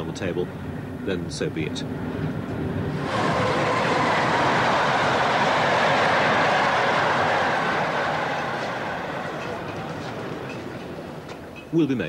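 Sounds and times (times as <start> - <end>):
train passing on rails: 1.8 - 12.0.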